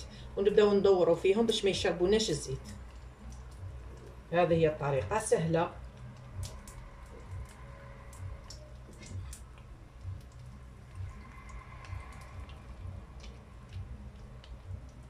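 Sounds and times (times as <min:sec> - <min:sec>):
hot oil crackling and popping: 0:00.0 - 0:15.0.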